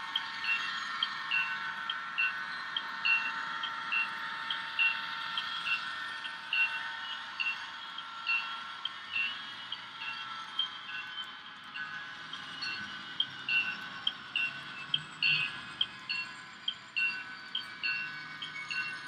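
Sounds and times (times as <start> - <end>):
model locomotive bell ringing: 0.0 - 19.0
steady hum of trains: 0.0 - 19.0.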